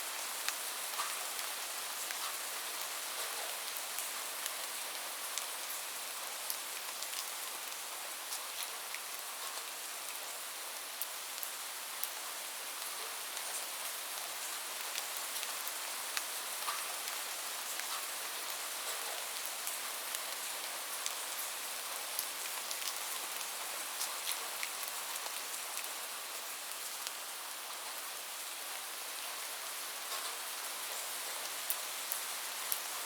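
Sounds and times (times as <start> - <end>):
steady rain: 0.0 - 33.0
raindrops ticking on a surface: 0.2 - 28.0, 28.6 - 33.0.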